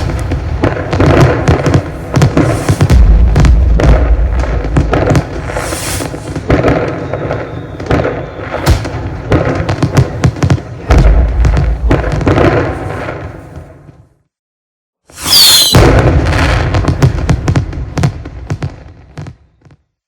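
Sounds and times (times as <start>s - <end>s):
deep firework booms: 0.0s - 14.2s, 15.4s - 19.7s
fireworks cracking and popping: 0.0s - 14.2s, 15.1s - 19.8s.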